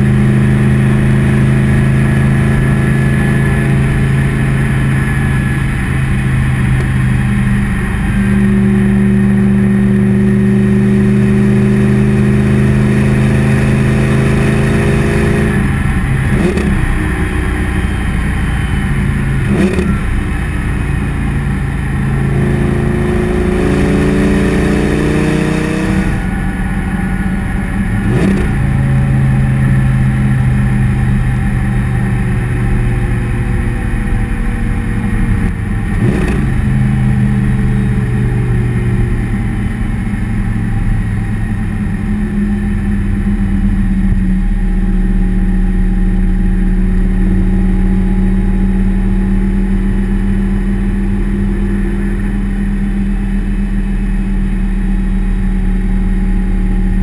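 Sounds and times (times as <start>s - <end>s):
sports car exhaust: 0.0s - 57.0s.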